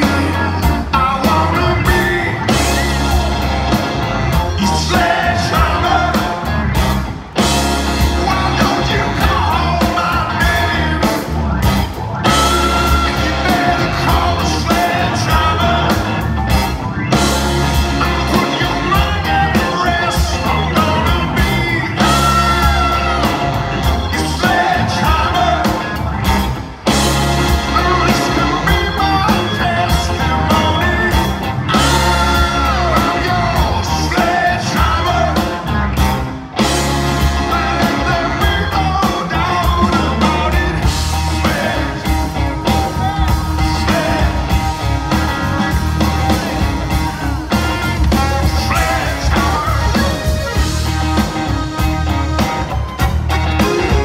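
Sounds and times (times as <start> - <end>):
man singing lead vocal: 0.0 - 3.6, 4.4 - 7.0, 8.0 - 35.8, 36.6 - 50.8, 53.5 - 54.0
rock band playing: 0.0 - 54.0
saxophone: 0.0 - 54.0.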